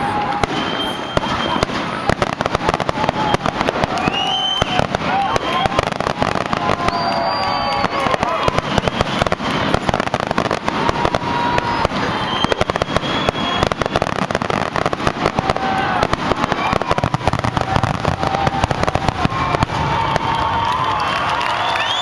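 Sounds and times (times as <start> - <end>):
fireworks bangs: 0.0 - 22.0
fireworks whistling: 0.0 - 22.0.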